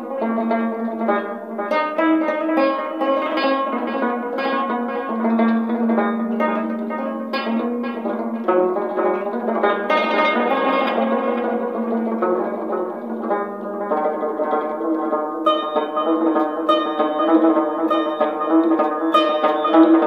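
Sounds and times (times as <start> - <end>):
plucked string melody: 0.0 - 20.0.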